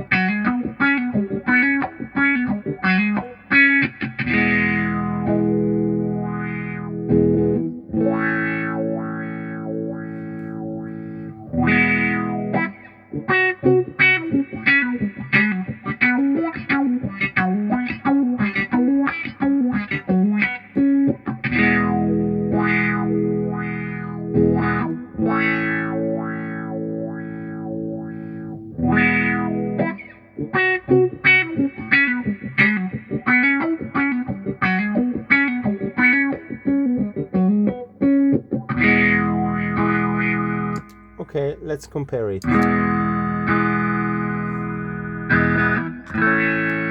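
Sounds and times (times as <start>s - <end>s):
electric guitar with wah pedal: 0.0s - 41.6s, 42.3s - 46.9s.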